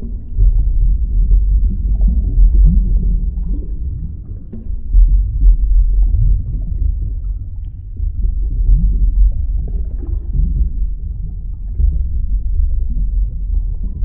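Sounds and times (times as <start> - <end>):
deep underwater rumble: 0.0 - 14.0.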